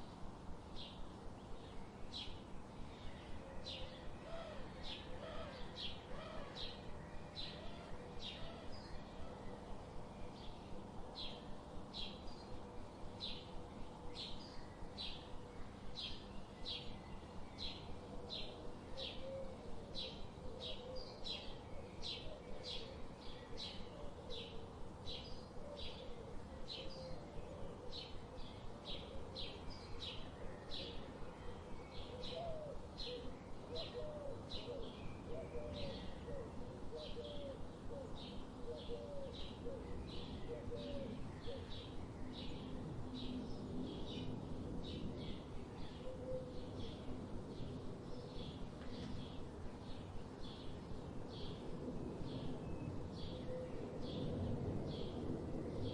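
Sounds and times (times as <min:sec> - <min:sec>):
background hiss: 0:00.0 - 0:55.9.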